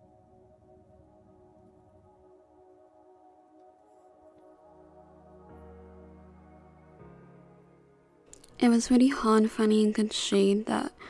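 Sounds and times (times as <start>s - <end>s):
ambient electronic music: 0.0s - 9.1s.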